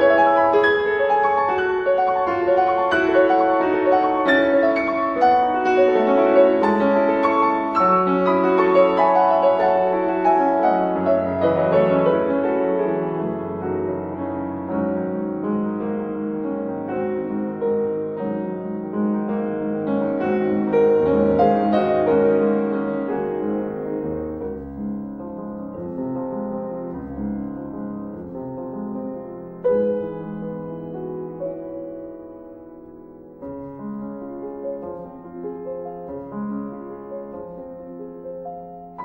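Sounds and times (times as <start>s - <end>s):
piano music: 0.0s - 39.0s.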